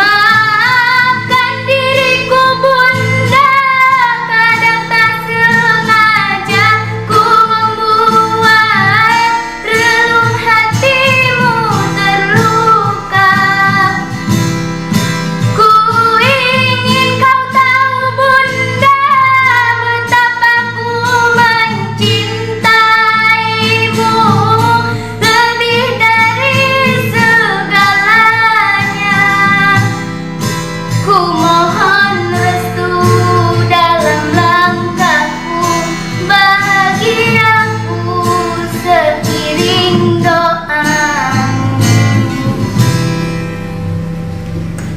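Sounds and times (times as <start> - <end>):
girl singing a slow ballad: 0.0 - 43.2
karaoke backing track with guitar: 0.0 - 44.9.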